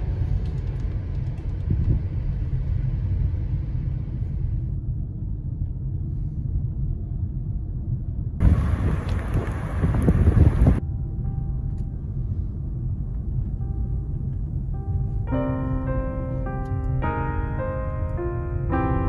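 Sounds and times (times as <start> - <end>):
car cabin rumble: 0.0 - 19.0
road and wind noise: 0.0 - 19.0.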